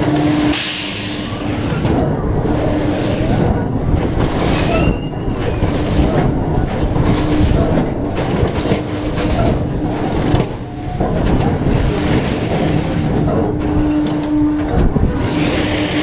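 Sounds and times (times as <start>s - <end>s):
amusement ride rumbling and rushing: 0.0s - 16.0s
steady hum: 0.0s - 16.0s.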